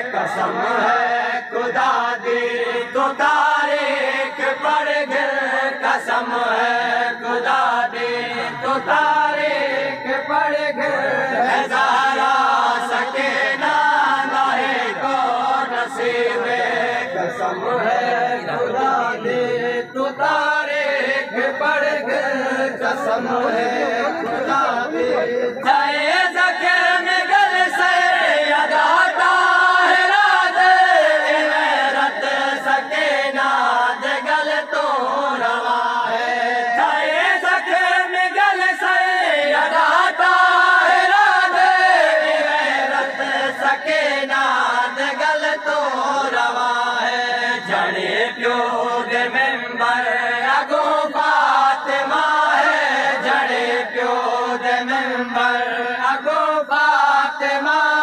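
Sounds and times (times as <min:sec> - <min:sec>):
men chanting a lament: 0:00.0 - 0:58.0.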